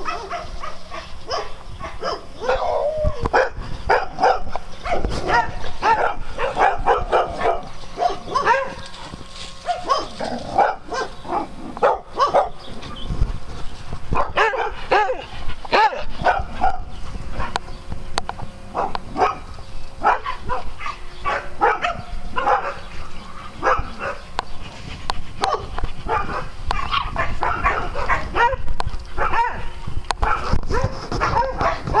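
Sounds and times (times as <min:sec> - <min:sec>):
dogs barking and yipping: 0:00.0 - 0:17.8, 0:18.7 - 0:32.0.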